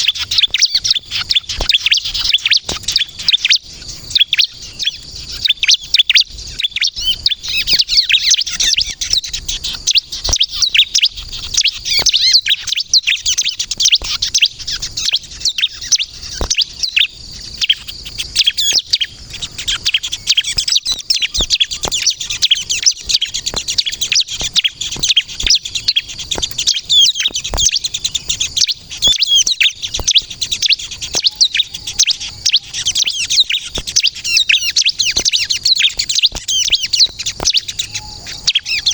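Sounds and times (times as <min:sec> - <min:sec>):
bird singing high chirps and trills: 0:00.0 - 0:38.9.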